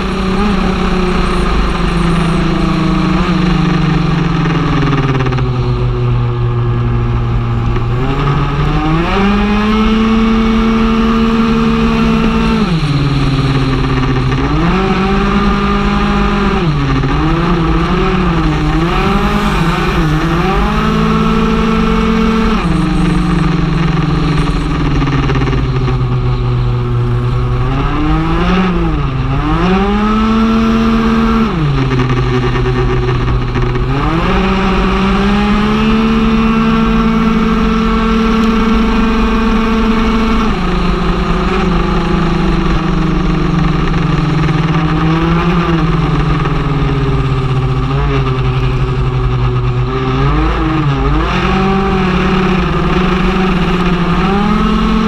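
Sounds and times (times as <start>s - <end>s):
scooter engine revving: 0.0s - 55.0s.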